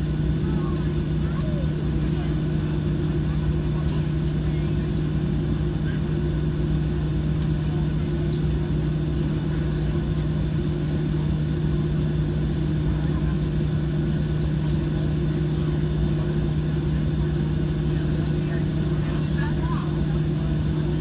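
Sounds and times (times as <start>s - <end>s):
engine low hum: 0.0s - 21.0s.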